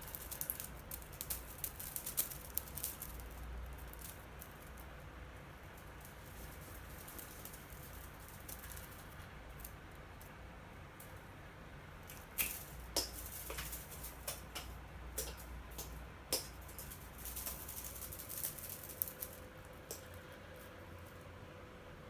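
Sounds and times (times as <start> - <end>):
cat toy rattling and clicking: 0.0 - 9.8, 12.1 - 20.8.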